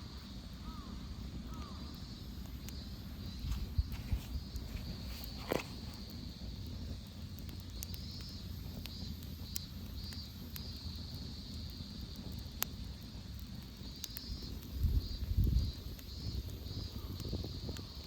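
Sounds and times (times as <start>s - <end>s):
fire crackling pops: 0.0s - 18.0s
wood fire rumbling: 0.1s - 18.0s.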